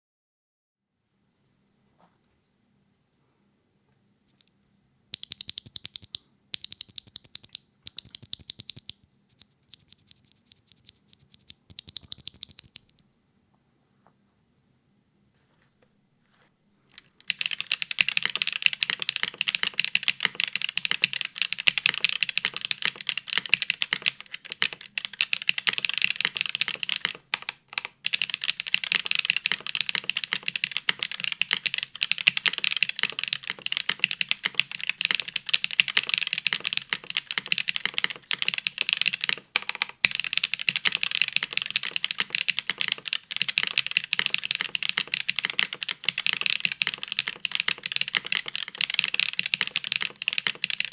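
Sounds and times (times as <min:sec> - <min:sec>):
mechanical keyboard typing: 0:05.1 - 0:13.0, 0:17.0 - 0:50.9.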